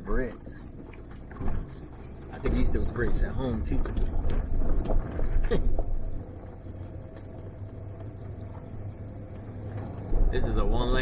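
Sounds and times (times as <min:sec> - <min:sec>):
car engine low rumble: 0:00.0 - 0:11.0
knocks and rattles over bumps: 0:00.0 - 0:11.0.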